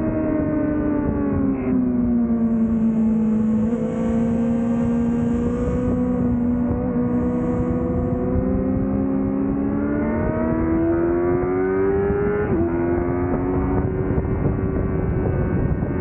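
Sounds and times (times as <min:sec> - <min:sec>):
motorcycle engine revving: 0:00.0 - 0:16.0
wind noise: 0:00.0 - 0:16.0.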